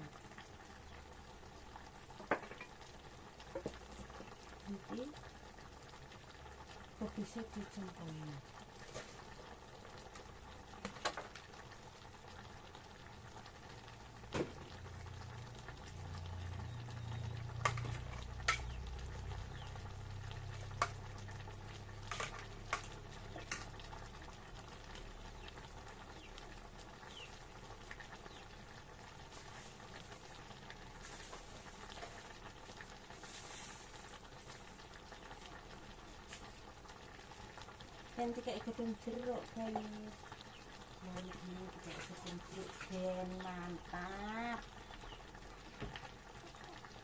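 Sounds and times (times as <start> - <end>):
pot of liquid boiling: 0.0 - 47.0.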